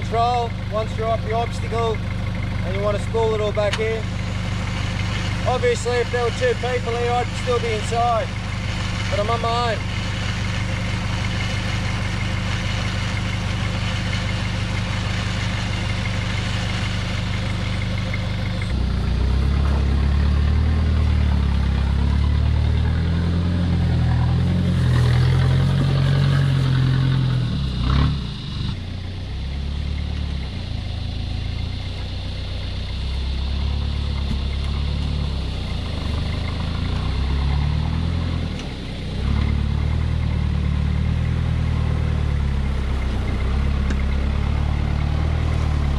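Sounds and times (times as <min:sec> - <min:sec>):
diesel engine idling and revving: 0:00.0 - 0:45.9.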